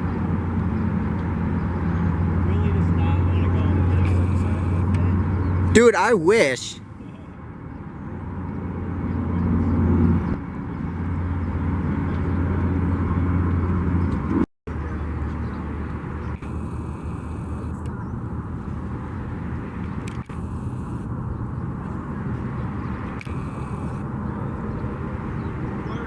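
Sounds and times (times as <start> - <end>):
boat motor humming: 0.0 - 7.4, 8.0 - 26.0.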